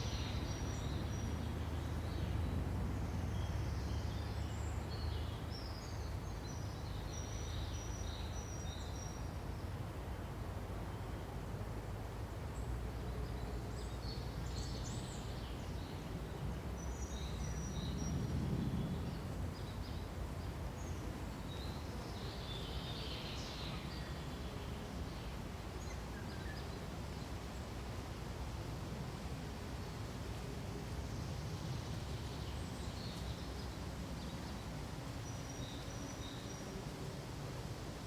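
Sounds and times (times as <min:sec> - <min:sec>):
wind through pines: 0:00.0 - 0:38.0.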